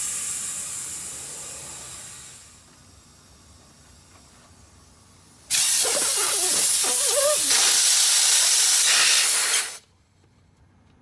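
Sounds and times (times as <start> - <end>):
compressed air hissing: 0.0 - 4.2, 4.8 - 9.8.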